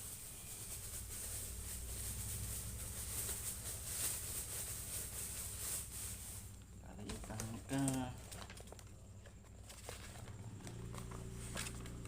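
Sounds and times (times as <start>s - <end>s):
low hum and high hiss: 0.0s - 12.0s.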